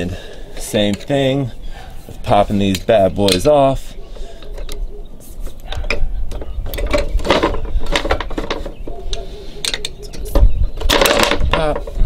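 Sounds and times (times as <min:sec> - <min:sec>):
metal clinking and scraping: 0:02.3 - 0:12.0.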